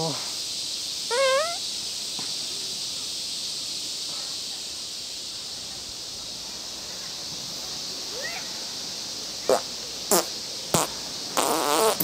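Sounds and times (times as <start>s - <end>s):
insects droning in trees: 0.0s - 12.0s.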